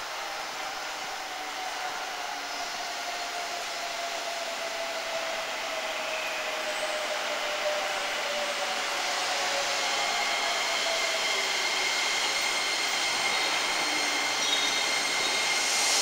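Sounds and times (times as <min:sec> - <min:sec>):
electric train whirring and whining: 0:00.0 - 0:16.0.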